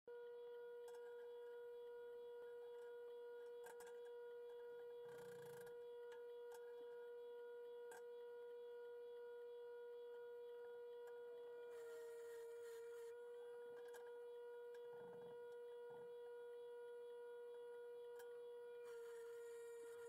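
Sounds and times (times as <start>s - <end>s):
faint steady hum: 0.1s - 20.0s.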